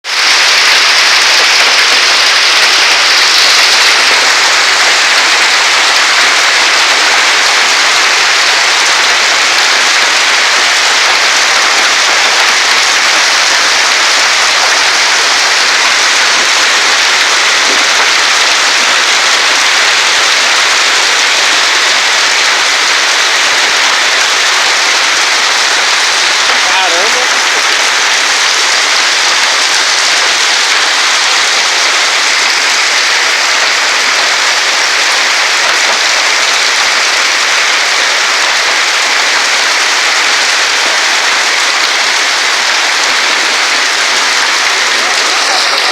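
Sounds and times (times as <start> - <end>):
hailstones rattling: 0.0 - 45.9.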